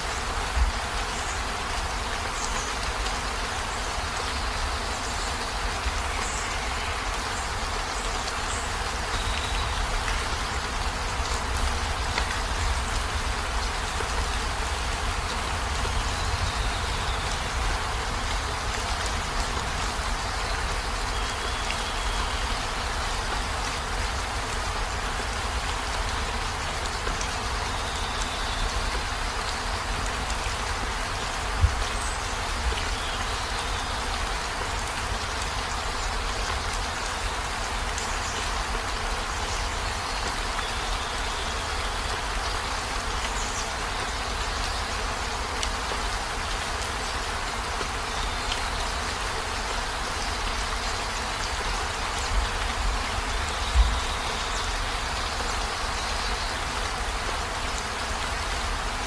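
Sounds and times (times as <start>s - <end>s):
heavy rain on vehicle roof: 0.0s - 59.0s.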